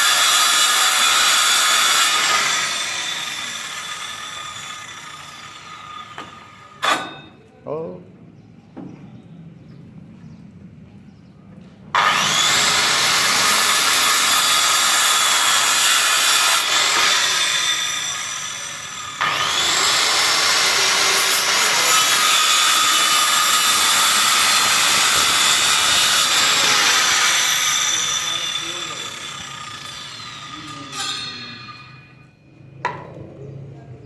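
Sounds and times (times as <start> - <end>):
power tool cutting wood: 0.0 - 7.2, 12.0 - 32.2.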